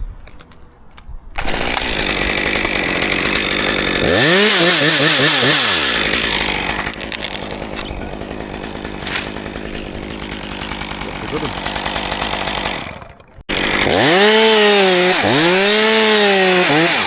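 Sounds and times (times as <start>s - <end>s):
chainsaw cutting wood: 1.4s - 17.0s.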